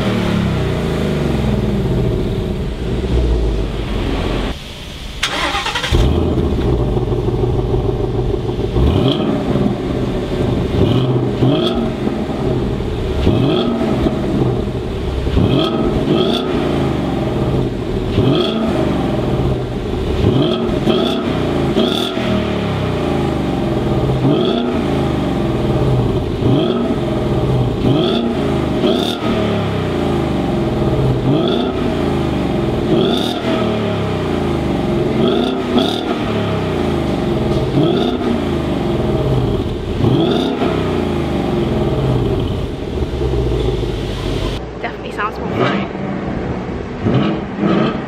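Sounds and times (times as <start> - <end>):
car exhaust revving: 0.0 - 48.0.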